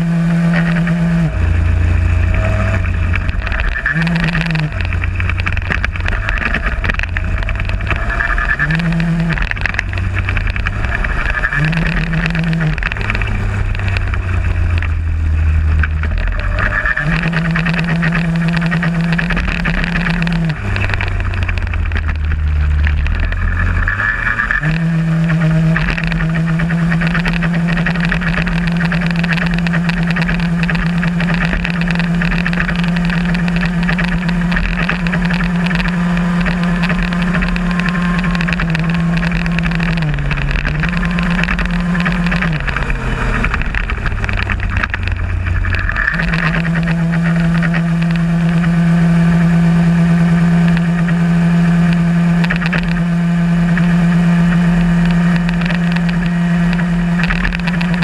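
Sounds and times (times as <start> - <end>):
moped engine running hard: 0.0 - 58.0.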